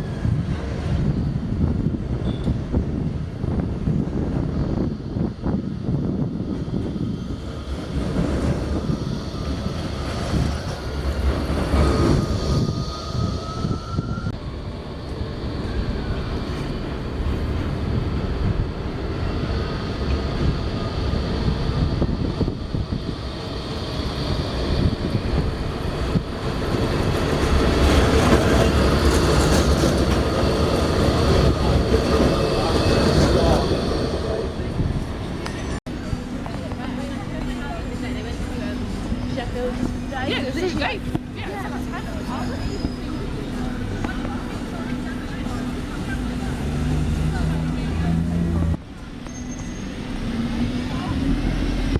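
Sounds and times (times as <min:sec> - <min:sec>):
rail vehicle rumbling on track: 0:00.0 - 0:51.9.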